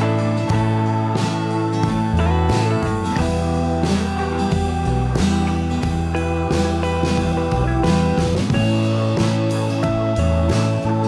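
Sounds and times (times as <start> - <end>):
guitar-led instrumental music: 0.0 - 11.0
drum beat: 0.5 - 11.0.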